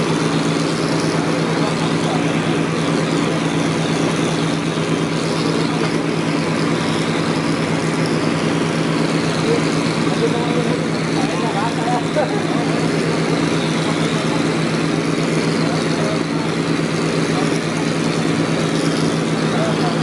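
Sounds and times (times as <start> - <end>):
engine low hum: 0.0 - 20.0.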